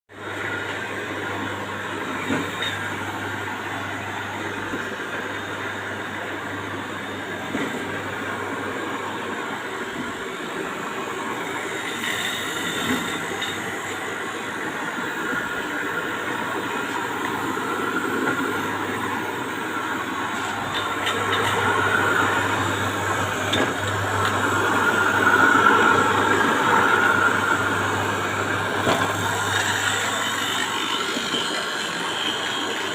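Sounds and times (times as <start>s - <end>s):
motor hum: 0.1s - 32.9s.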